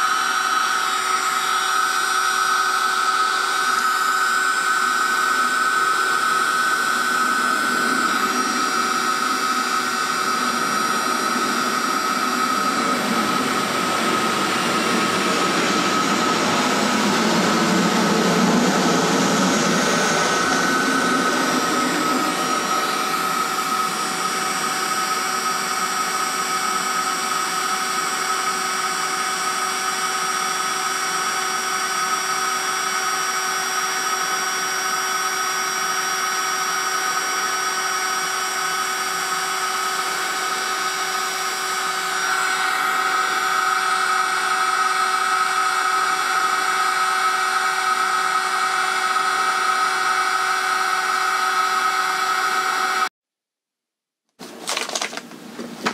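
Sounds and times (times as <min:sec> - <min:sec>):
heat gun fan whine: 0:00.0 - 0:53.1, 0:54.4 - 0:55.9.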